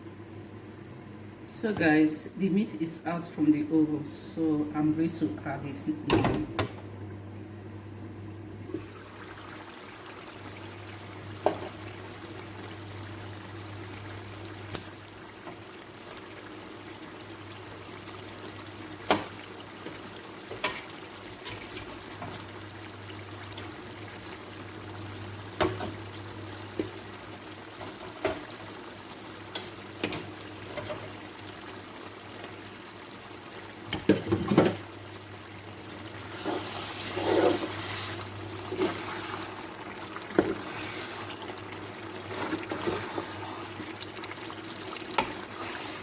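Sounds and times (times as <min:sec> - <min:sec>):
soup bubbling in pot: 0:06.2 - 0:46.0.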